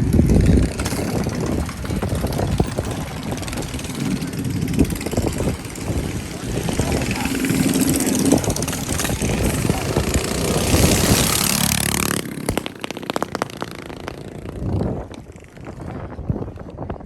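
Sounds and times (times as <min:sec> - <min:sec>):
engine crackling pops: 0:00.0 - 0:15.8
mini bike engine running: 0:00.0 - 0:17.0.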